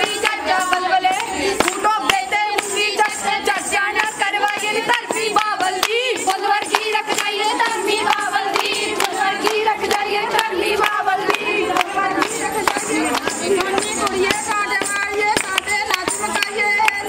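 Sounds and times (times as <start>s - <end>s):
hand-clapping: 0.0s - 17.0s
women singing folk songs together: 0.0s - 17.0s.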